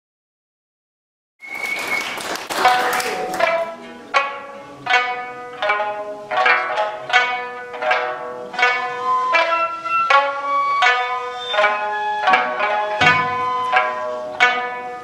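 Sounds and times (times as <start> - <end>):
plucked lutes playing folk music: 2.6 - 15.0.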